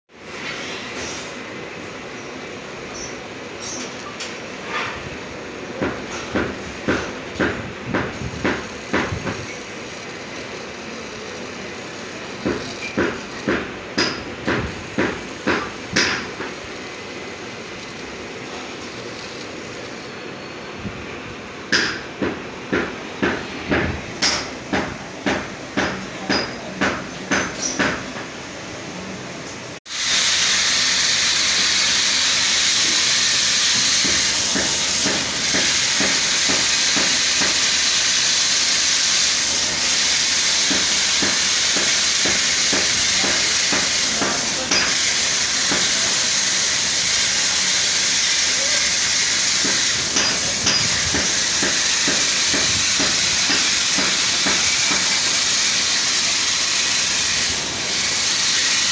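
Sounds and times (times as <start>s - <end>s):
laser marking machine hiss: 0.2s - 20.2s, 29.9s - 58.9s.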